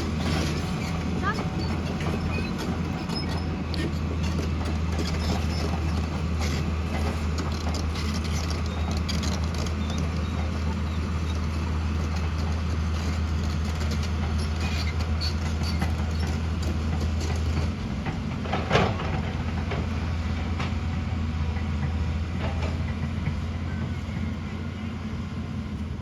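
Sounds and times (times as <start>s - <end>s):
heavy machinery diesel engine: 0.0s - 26.0s.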